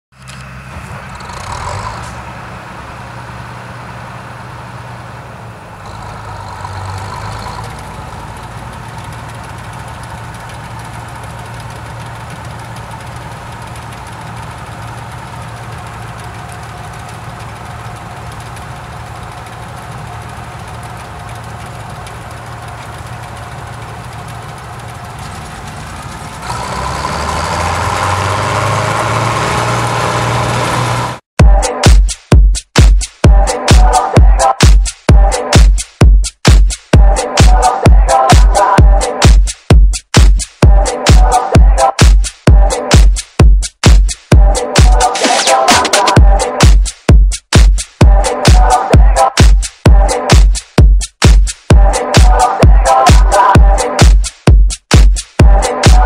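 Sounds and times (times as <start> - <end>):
diesel engine idling: 0.2 - 31.6, 37.0 - 39.5, 40.6 - 43.2, 44.3 - 46.9, 47.8 - 50.7, 51.6 - 54.2, 55.3 - 56.0.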